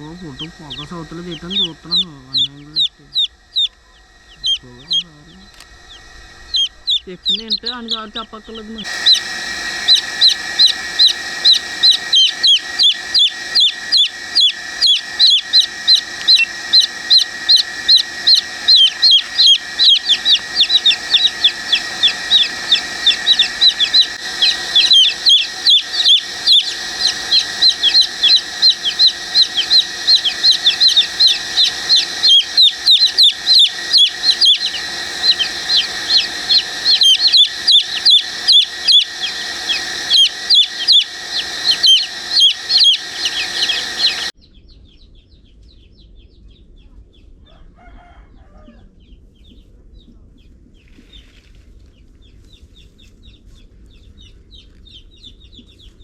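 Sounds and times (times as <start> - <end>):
chicks peeping: 0.0 - 47.3, 52.2 - 56.0.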